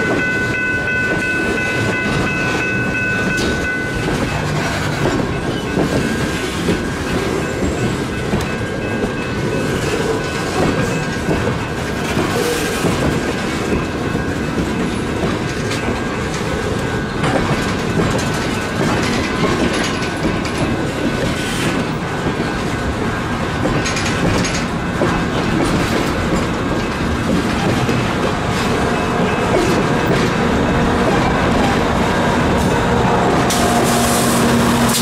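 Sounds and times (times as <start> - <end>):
train wheels clacking on rails: 0.0 - 35.0.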